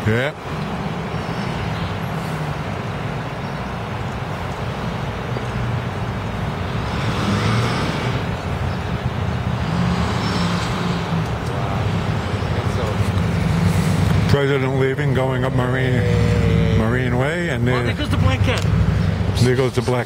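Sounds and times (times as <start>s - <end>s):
vehicles driving past slowly: 0.0s - 20.0s
ambulance passing close: 0.8s - 19.4s.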